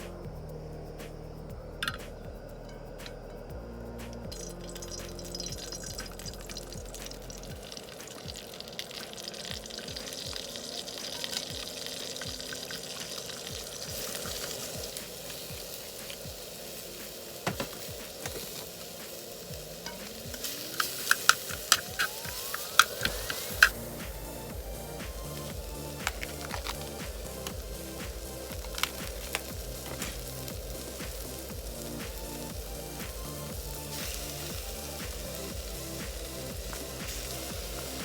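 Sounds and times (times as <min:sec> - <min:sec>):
food sizzling in a pan: 0:04.3 - 0:38.0.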